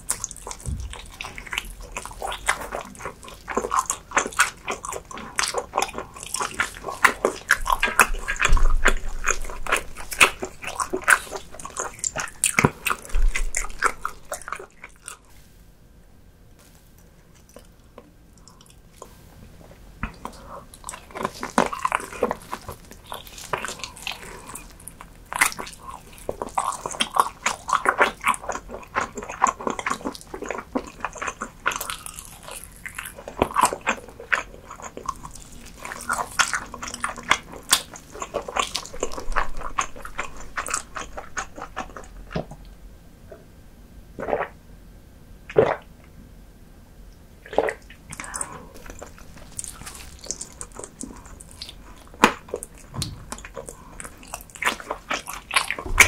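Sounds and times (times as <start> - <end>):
biting and chewing: 0.0 - 15.3, 20.0 - 42.8, 47.4 - 56.0.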